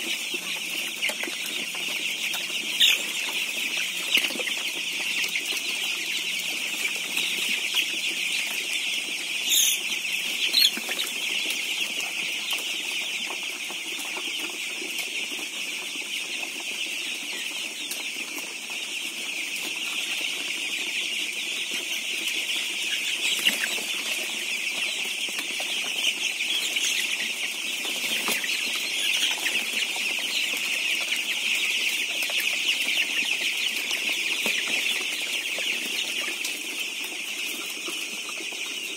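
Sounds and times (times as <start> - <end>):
chicks peeping chorus: 0.0 - 38.9.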